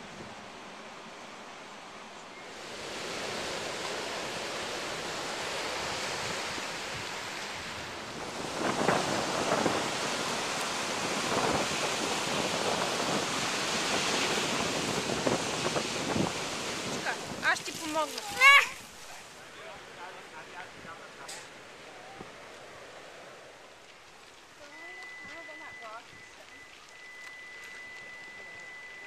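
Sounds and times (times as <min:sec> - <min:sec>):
ocean surf washing over rocks: 0:00.0 - 0:29.0.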